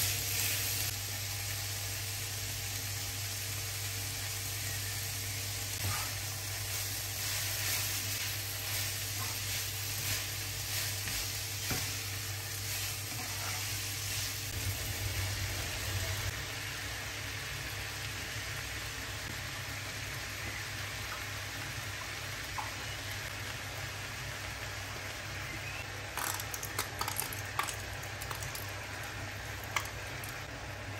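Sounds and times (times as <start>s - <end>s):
vegetables sizzling in frying pan: 0.0s - 30.9s.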